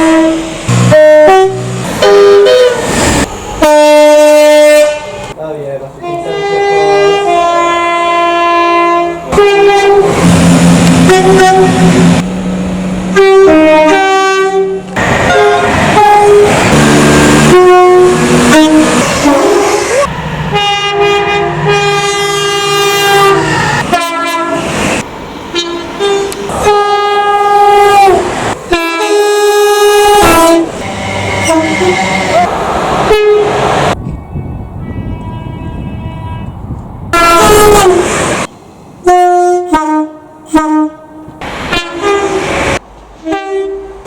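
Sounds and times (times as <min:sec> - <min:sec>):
train horns blowing chords: 0:00.0 - 0:02.8, 0:03.6 - 0:05.4, 0:06.0 - 0:12.2, 0:13.1 - 0:24.7, 0:25.5 - 0:32.5, 0:33.1 - 0:33.8, 0:34.8 - 0:38.2, 0:39.0 - 0:42.5, 0:43.2 - 0:44.0
passing train rumble: 0:00.0 - 0:44.0.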